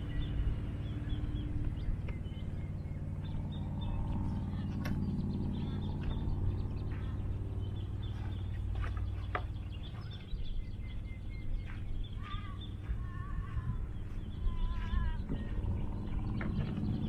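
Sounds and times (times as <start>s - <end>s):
birds chirping and calling: 0.0s - 17.0s
steady low rumble: 0.0s - 17.0s.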